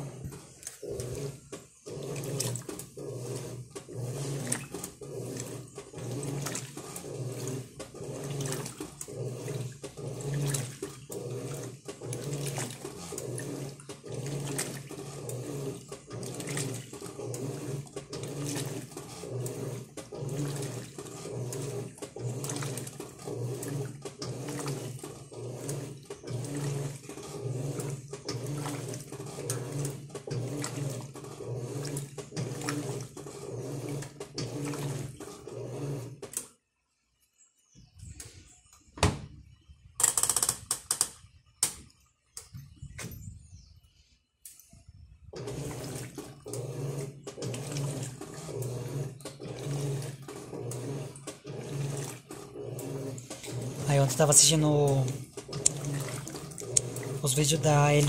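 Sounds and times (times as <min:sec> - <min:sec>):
washing machine agitating laundry: 0:00.0 - 0:36.5, 0:44.5 - 0:58.0.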